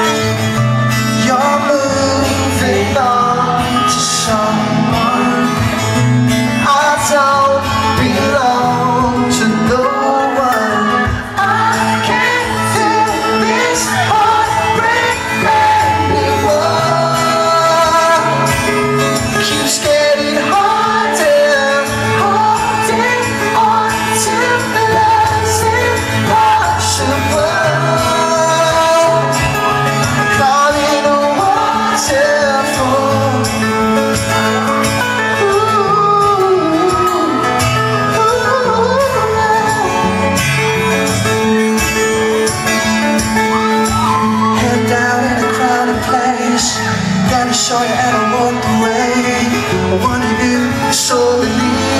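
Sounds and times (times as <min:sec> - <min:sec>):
lead singer singing: 0:00.0 - 0:51.9
live pop-rock band playing: 0:00.0 - 0:51.9.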